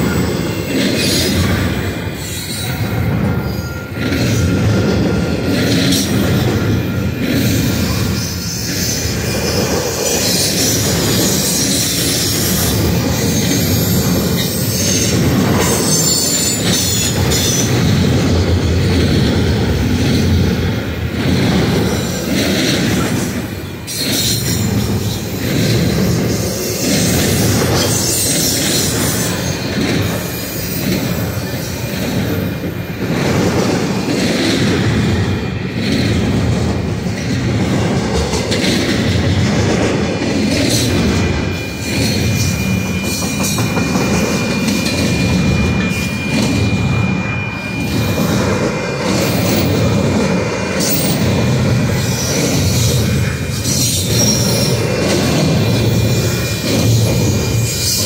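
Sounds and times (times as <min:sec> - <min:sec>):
high wheel squeal: 0:00.0 - 0:36.2, 0:40.4 - 0:58.0
train wheels rumbling on rail: 0:00.0 - 0:58.0.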